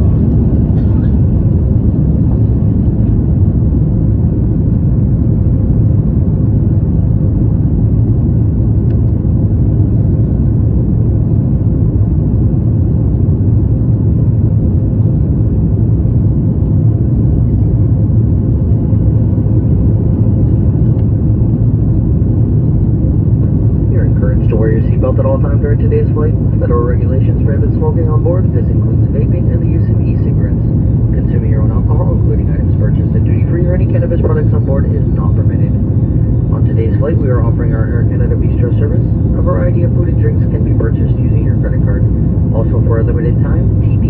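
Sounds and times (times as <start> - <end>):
faint steady hum: 0.0 - 44.0
jet engine and airflow rumble: 0.0 - 44.0.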